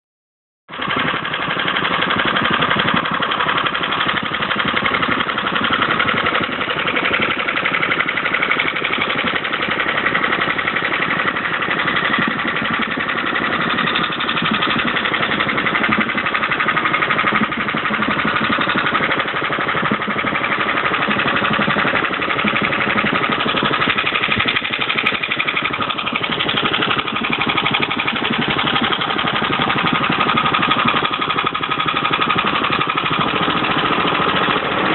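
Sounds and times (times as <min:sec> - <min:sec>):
lawn mower engine idling: 0:00.7 - 0:34.9.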